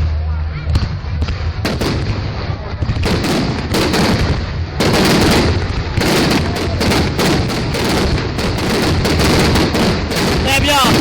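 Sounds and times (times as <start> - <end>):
low rumble: 0.0 - 11.0
fireworks bangs: 0.8 - 11.0.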